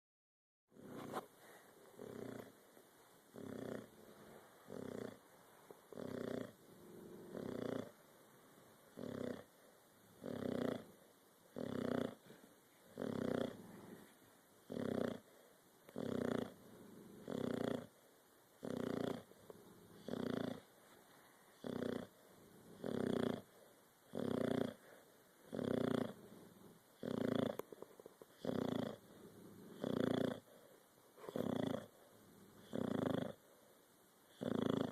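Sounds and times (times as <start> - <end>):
pet snoring: 0.7 - 2.6, 3.3 - 8.0, 8.9 - 18.0, 18.6 - 20.7, 21.5 - 33.5, 34.3 - 34.9.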